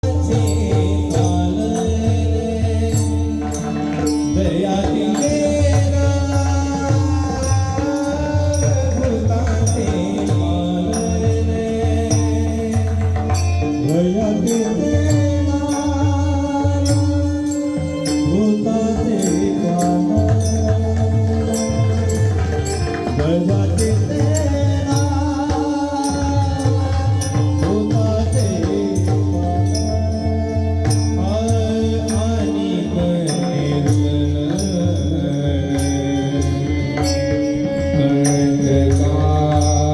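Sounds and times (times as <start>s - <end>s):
hand drum beat: 0.0s - 35.5s
man singing devotional song: 0.0s - 39.9s.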